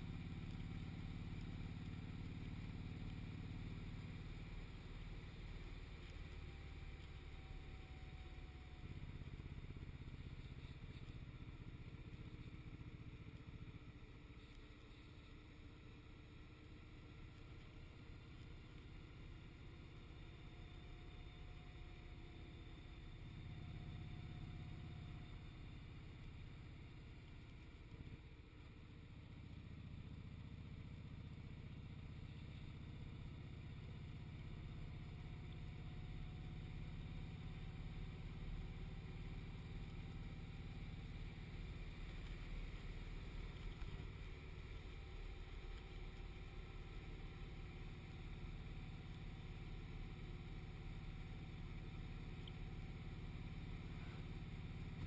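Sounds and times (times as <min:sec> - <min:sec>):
motorcycle engine rumble: 0:00.0 - 0:55.0
road noise: 0:00.0 - 0:55.0.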